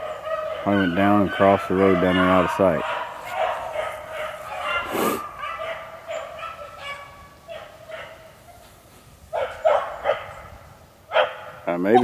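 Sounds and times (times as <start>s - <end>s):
dogs baying: 0.0s - 12.0s.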